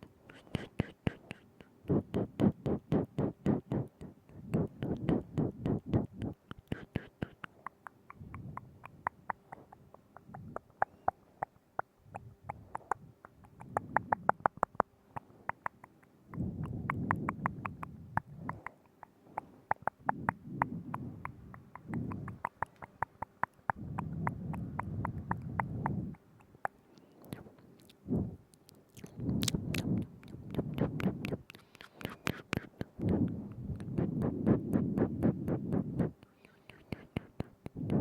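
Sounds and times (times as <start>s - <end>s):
tongue clicks and lip smacks: 0.0s - 38.0s.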